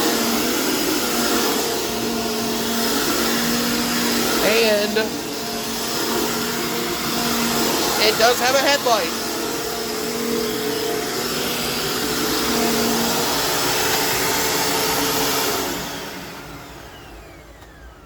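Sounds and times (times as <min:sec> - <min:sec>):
vacuum cleaner motor running: 0:00.0 - 0:18.0
vacuum motor spinning down: 0:00.0 - 0:18.0.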